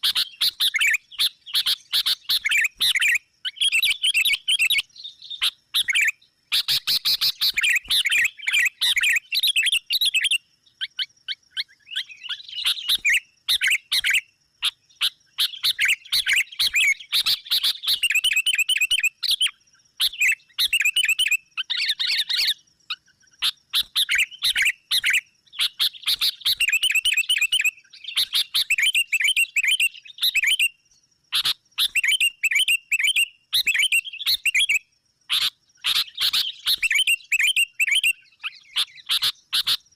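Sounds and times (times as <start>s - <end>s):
birds chattering and calling: 0.0s - 39.9s.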